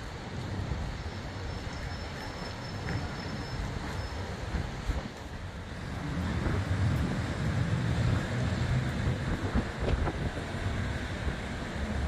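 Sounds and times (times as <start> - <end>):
rain hiss: 0.0 - 12.0
traffic on wet road: 0.0 - 12.0
wind buffeting microphone: 0.0 - 12.0.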